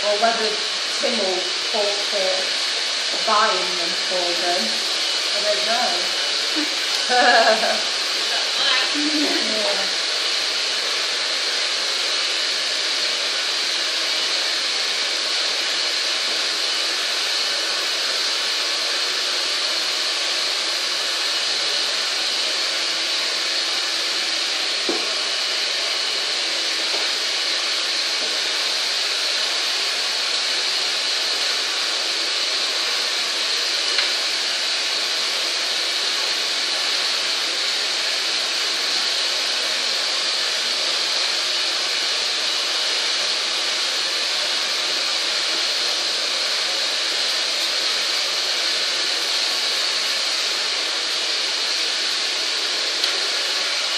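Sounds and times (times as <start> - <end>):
electric blower motor running: 0.0 - 53.9.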